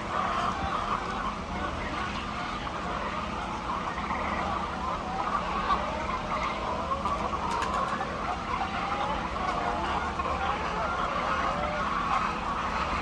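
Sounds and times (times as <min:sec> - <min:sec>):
hens clucking and calling: 0:00.0 - 0:13.0
steady low hum: 0:00.0 - 0:13.0.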